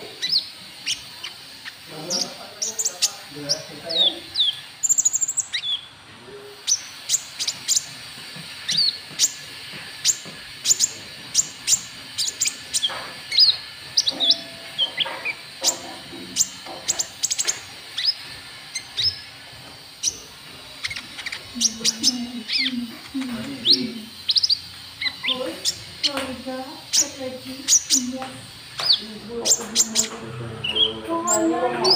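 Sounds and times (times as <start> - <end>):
bird chirping: 0.0 - 31.9.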